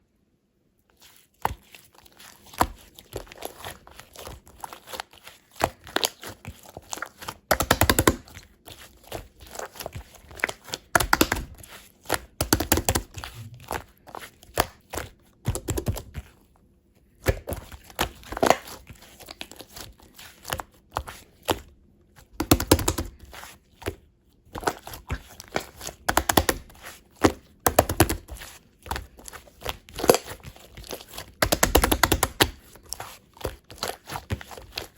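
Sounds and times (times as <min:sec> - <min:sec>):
slime squishing by hand: 0:00.9 - 0:34.9.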